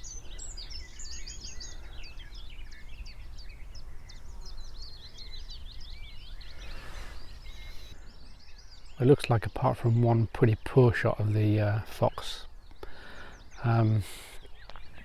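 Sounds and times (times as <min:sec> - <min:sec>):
songbirds chirping and warbling: 0:00.0 - 0:15.0.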